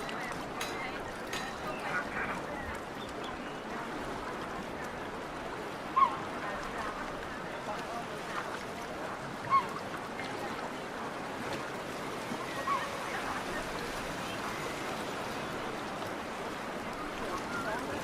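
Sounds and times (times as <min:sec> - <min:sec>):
distant indistinct voices: 0:00.0 - 0:18.0
outdoor noise: 0:00.0 - 0:18.0.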